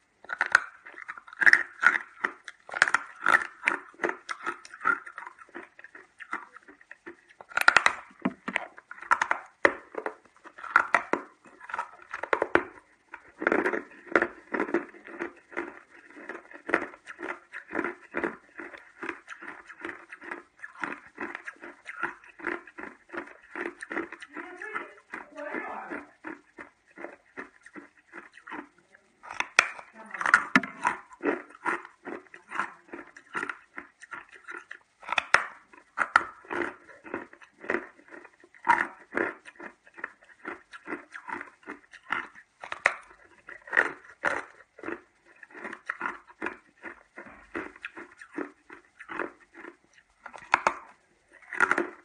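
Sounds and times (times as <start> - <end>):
ice crunching while chewed: 0.0 - 52.0.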